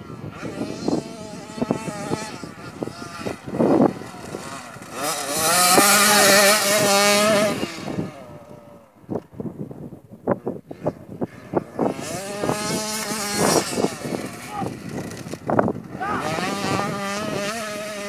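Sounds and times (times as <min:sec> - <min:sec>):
dirt bike engine revving past: 0:00.0 - 0:09.0, 0:10.7 - 0:18.0.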